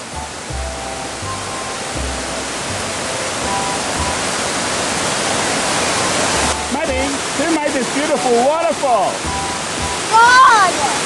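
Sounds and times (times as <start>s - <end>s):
soft background music: 0.0s - 11.0s
waterfall rushing over rocks: 0.0s - 11.0s.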